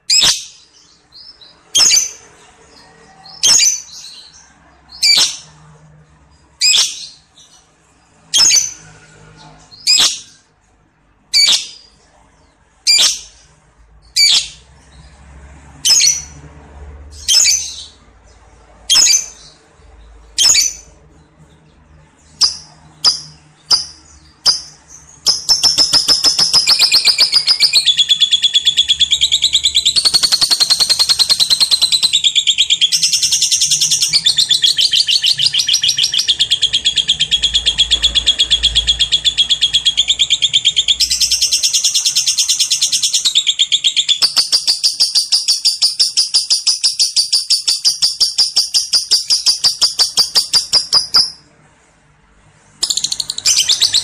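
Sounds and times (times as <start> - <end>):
lovebird chirping and trilling: 0.0 - 5.6, 6.5 - 10.5, 11.3 - 12.0, 12.8 - 15.2, 15.8 - 16.4, 17.1 - 18.1, 18.8 - 51.5, 52.8 - 54.0.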